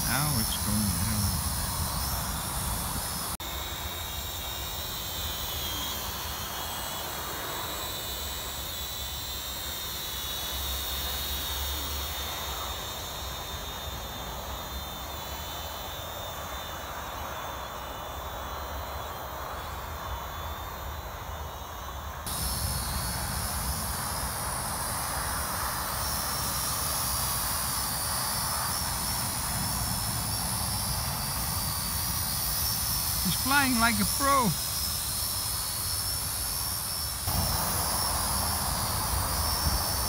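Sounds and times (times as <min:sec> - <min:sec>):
drone propellers whining: 0:00.0 - 0:16.6, 0:17.6 - 0:40.0.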